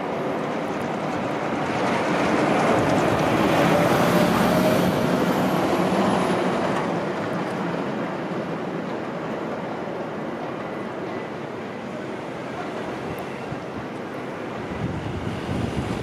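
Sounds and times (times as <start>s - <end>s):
freight train wheels on track: 0.0s - 16.0s.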